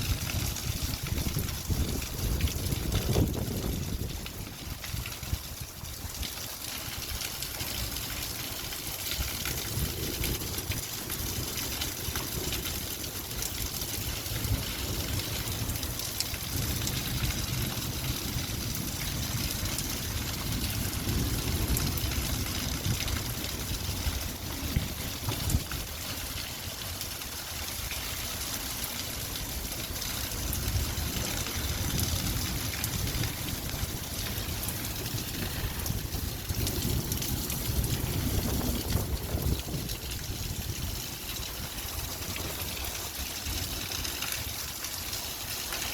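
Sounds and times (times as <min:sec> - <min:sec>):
light rain falling: 0:00.0 - 0:45.9.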